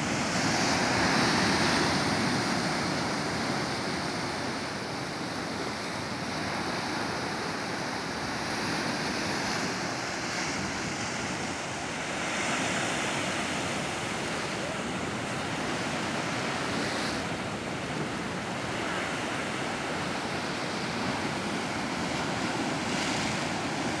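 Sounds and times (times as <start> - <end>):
surf against rocky shore: 0.0 - 24.0.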